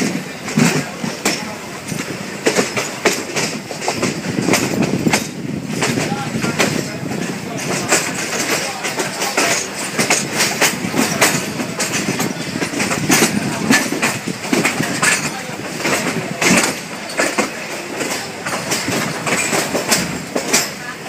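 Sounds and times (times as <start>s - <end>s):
train coach rumble: 0.0s - 21.0s
wheels clattering over rails: 0.0s - 21.0s.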